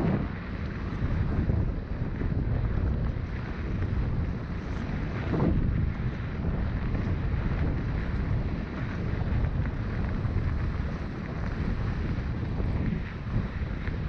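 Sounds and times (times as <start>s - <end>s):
wind buffeting microphone: 0.0s - 14.0s
bike clicks and rattles: 0.4s - 14.0s.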